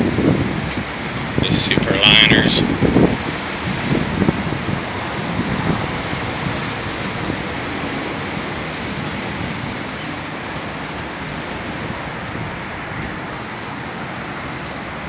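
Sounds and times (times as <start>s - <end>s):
standing train hum and hiss: 0.0s - 15.0s.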